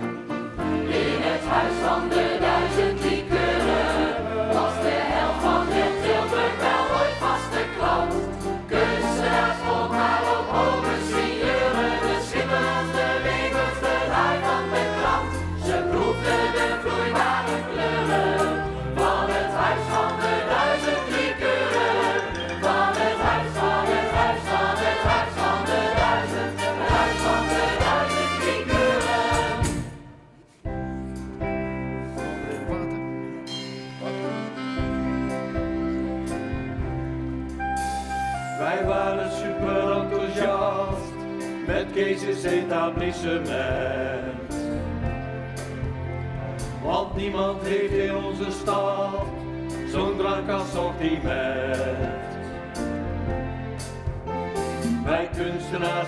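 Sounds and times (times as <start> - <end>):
ensemble chorus singing: 0.6 - 30.4, 38.6 - 53.1, 54.8 - 56.0.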